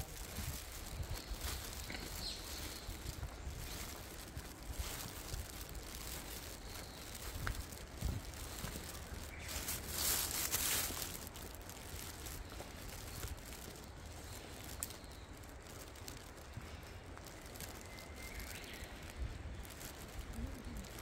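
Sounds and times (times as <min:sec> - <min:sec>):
footsteps crunching dry leaves: 0:00.0 - 0:21.0.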